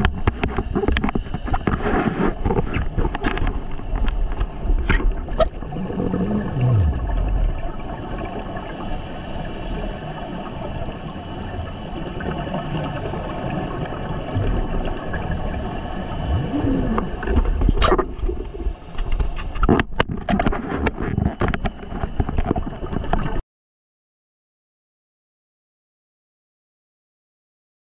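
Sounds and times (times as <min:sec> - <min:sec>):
underwater regulator bubbles gurgling: 0:00.0 - 0:23.4.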